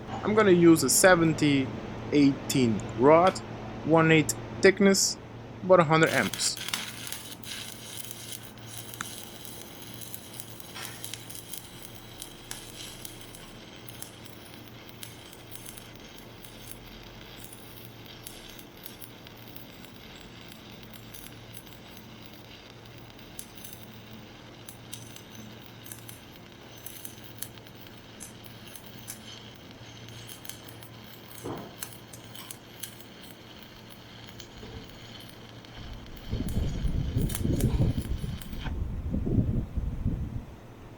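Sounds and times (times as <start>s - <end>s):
welding arc crackling sizzle: 0.0s - 39.6s.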